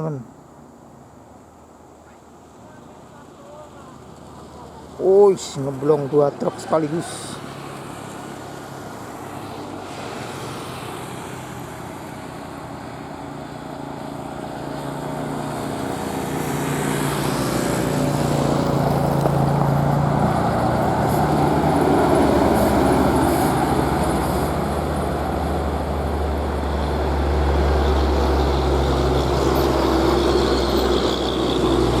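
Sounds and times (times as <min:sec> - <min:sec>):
heavy road traffic passing: 0:00.0 - 0:32.0.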